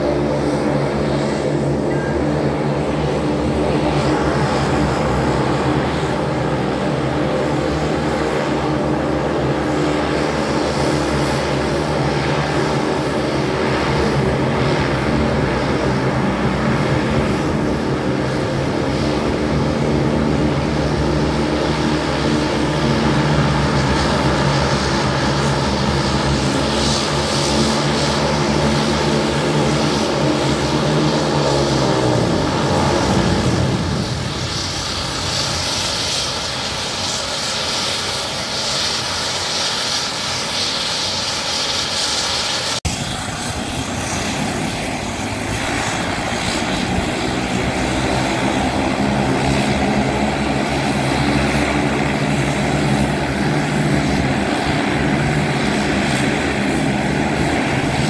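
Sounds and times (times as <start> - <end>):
deep propeller drone: 0.0 - 58.0
high turbine whine: 0.0 - 58.0.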